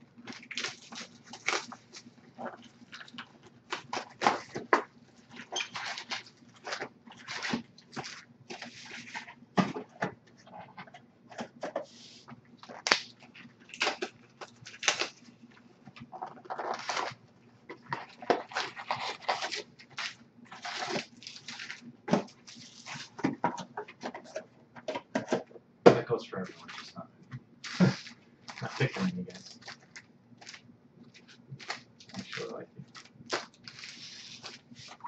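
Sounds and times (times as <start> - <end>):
plastic wrap crinkling: 0.2 - 9.8, 11.5 - 24.4, 27.6 - 35.0.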